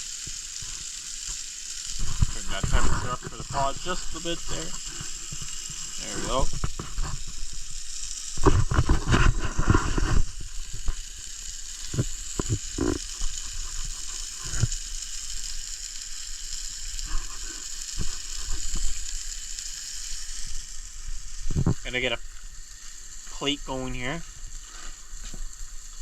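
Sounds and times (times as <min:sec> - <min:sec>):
burger patty sizzling: 0:00.0 - 0:26.0.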